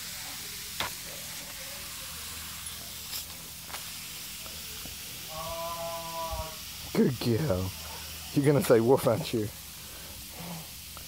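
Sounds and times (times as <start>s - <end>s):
hose spraying water on plastic: 0.0s - 11.0s.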